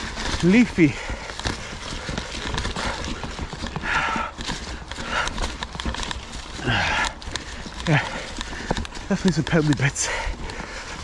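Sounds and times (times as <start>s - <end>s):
mountain bike rattling over rocks: 0.0s - 11.0s.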